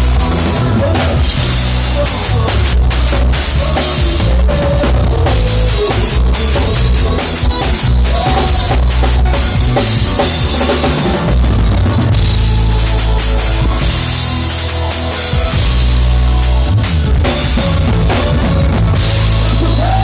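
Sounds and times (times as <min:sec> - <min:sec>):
loud band music: 0:00.0 - 0:20.0.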